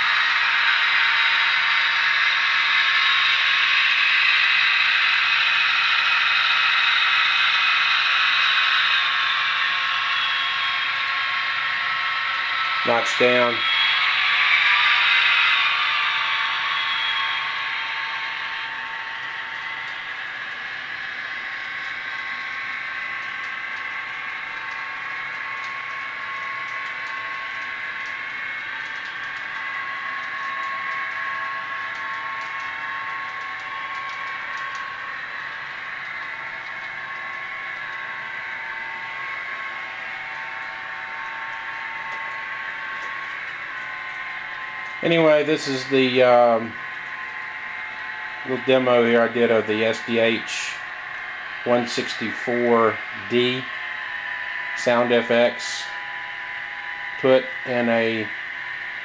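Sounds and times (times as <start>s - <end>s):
model locomotive diesel engine sound: 0.0s - 59.0s.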